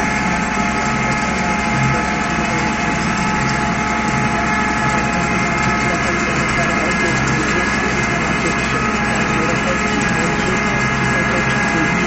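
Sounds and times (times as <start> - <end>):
constant engine whine: 0.0 - 12.0
tractor diesel engine drone: 0.0 - 12.0.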